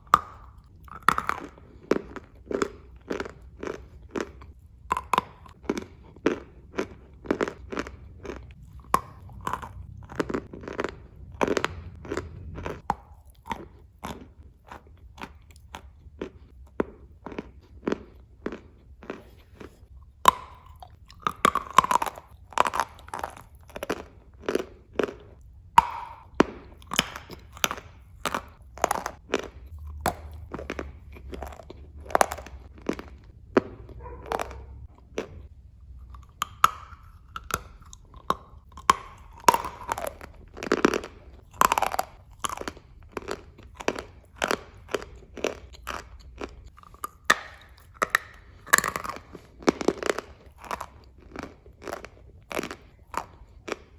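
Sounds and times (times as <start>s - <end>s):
crunchy chewing of clay: 0.0s - 53.9s.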